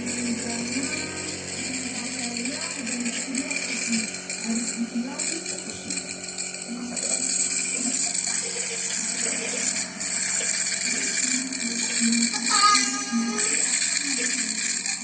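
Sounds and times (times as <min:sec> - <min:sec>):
nebulizer compressor buzzing: 0:00.0 - 0:15.0.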